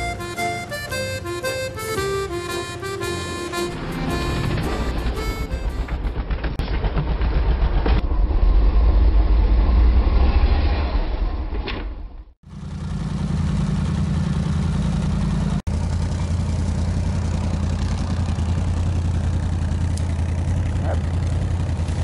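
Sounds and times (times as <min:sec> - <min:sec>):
atv engine rumbling: 0:00.0 - 0:09.2, 0:12.4 - 0:22.0.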